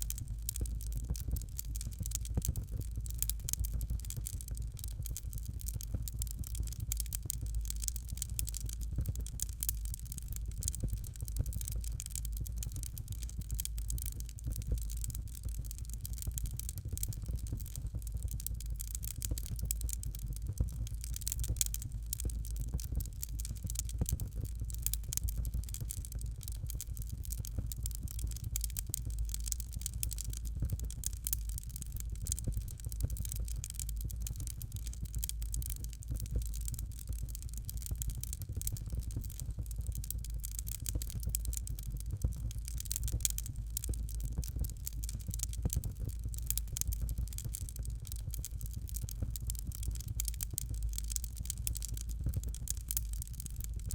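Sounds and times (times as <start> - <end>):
fire crackling in fireplace: 0.0 - 53.9
low steady rumble: 0.0 - 53.9.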